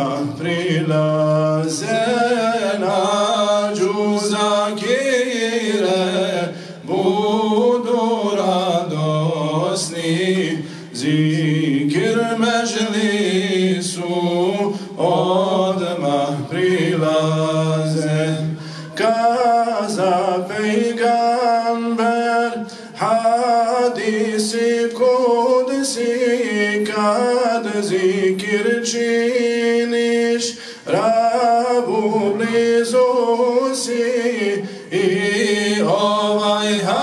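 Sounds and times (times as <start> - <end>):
men singing a hymn: 0.0 - 37.0.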